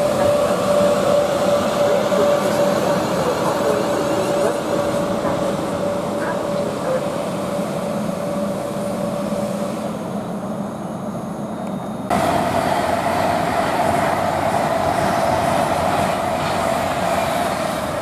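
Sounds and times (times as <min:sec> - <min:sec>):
train passing with whine: 0:00.0 - 0:18.0.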